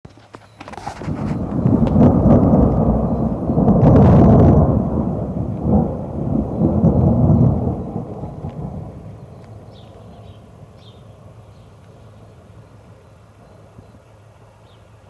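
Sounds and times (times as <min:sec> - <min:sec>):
thunder rumbling: 0:00.8 - 0:15.0.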